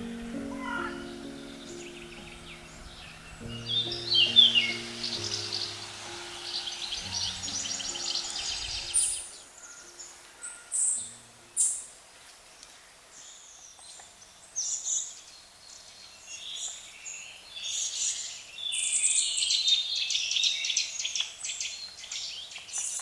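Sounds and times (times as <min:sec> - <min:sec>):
small songbirds chirping: 0:00.0 - 0:23.0.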